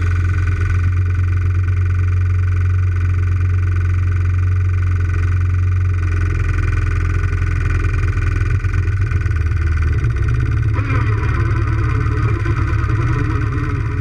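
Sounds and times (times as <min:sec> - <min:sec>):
quad engine idling: 0:00.0 - 0:14.0.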